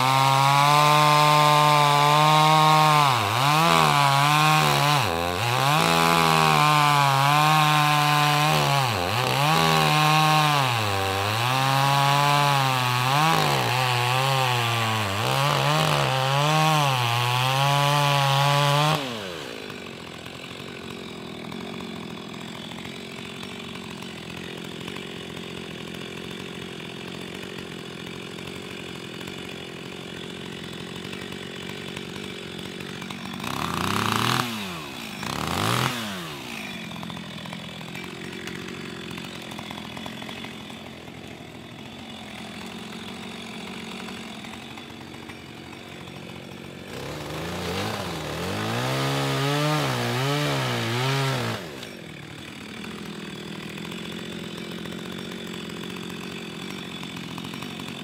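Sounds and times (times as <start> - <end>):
chainsaw cutting log: 0.0 - 58.0
chainsaw idling and revving: 0.0 - 58.0.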